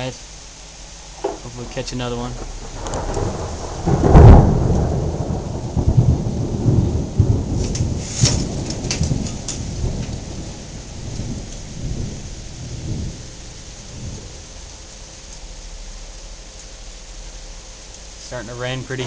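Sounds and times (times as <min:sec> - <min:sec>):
heavy rain: 0:00.0 - 0:19.0
thunderclap and rumble: 0:01.1 - 0:19.0.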